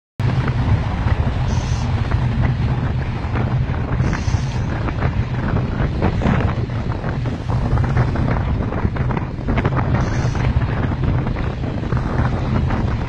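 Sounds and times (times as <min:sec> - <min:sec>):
steady low rumble: 0:00.2 - 0:13.0
strong wind buffeting microphone: 0:00.2 - 0:13.0.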